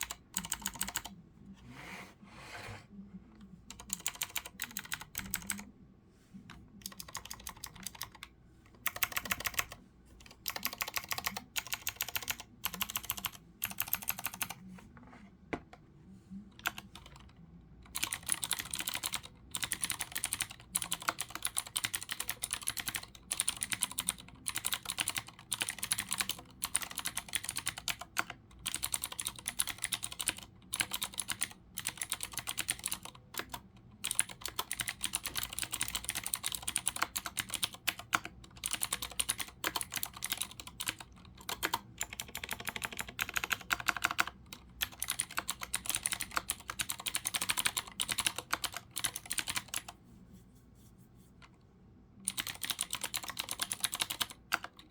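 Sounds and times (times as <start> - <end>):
fast typing on clicky keyboard: 0.0 - 1.1, 3.7 - 5.6, 6.8 - 14.6, 16.6 - 49.9, 52.2 - 54.9.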